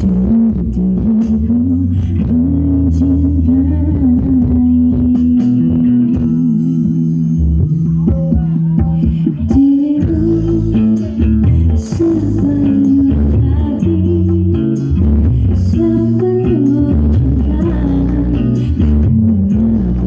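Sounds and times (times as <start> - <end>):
loud music with bass and guitar: 0.0 - 20.0.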